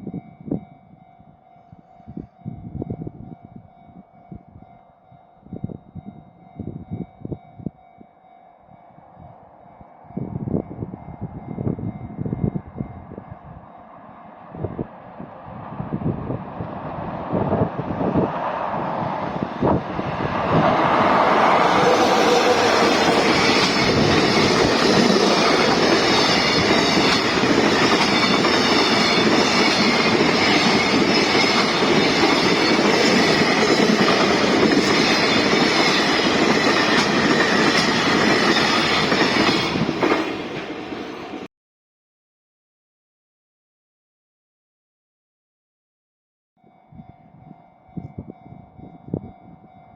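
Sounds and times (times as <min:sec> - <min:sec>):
freight train passing: 0:00.0 - 0:41.5.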